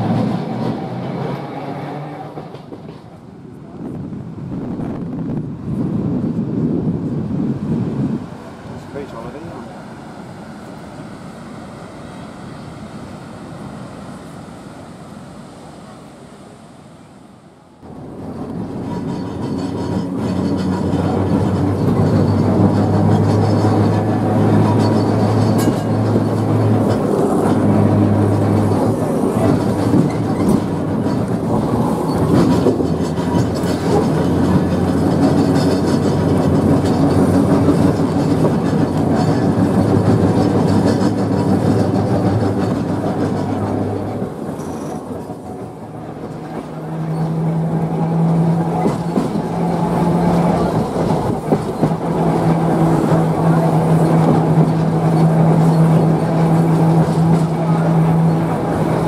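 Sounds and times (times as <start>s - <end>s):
tram wheels rumbling on rails: 0.0s - 59.0s.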